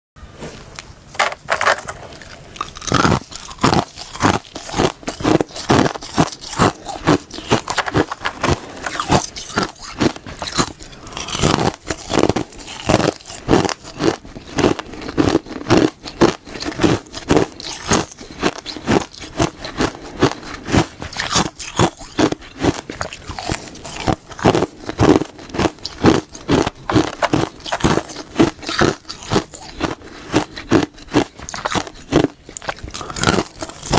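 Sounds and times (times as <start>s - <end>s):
crisp chewing crunches: 2.1s - 33.9s.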